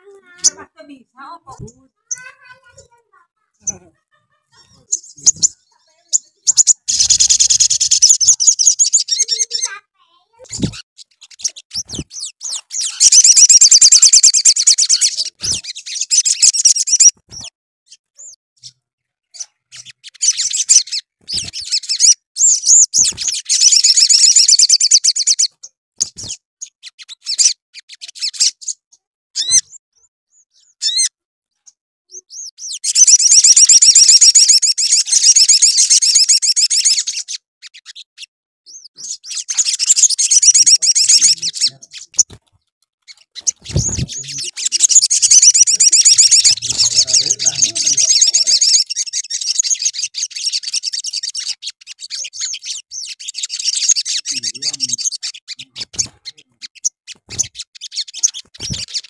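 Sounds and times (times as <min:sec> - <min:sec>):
bird high-pitched trilling: 0:00.0 - 0:42.4, 0:43.1 - 0:59.0
bird short chirps: 0:10.4 - 0:42.4, 0:43.1 - 0:59.0.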